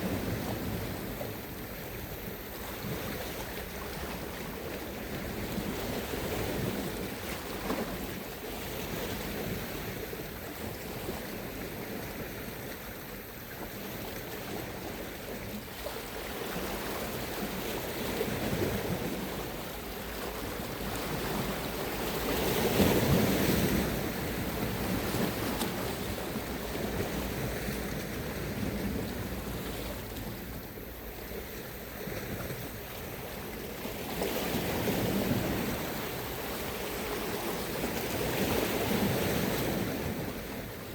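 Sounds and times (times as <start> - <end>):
sea waves washing ashore: 0.0 - 40.9
wind rumbling on microphone: 0.0 - 40.9.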